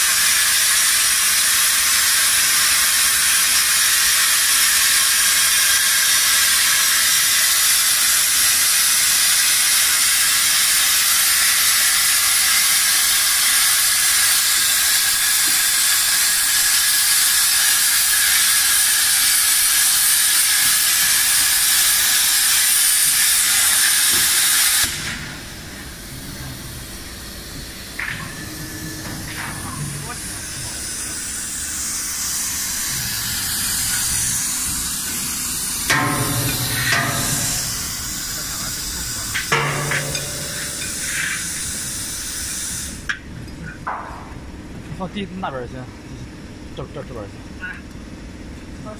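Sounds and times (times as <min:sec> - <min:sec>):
plasma torch hissing: 0:00.0 - 0:43.1.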